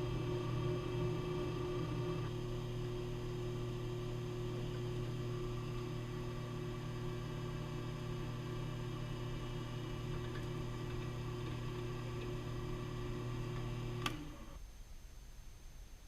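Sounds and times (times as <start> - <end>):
lathe motor humming: 0.0 - 14.6.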